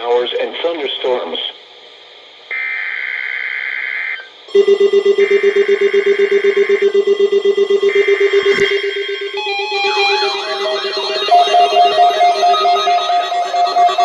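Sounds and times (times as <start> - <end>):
rapid low pulsing alarm beep: 2.5 - 14.0
screechy digital data bursts: 2.5 - 14.0.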